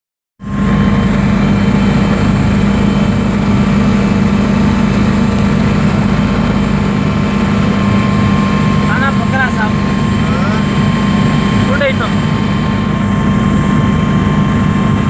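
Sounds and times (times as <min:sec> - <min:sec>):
helicopter engine and rotor drone: 0:00.4 - 0:15.0.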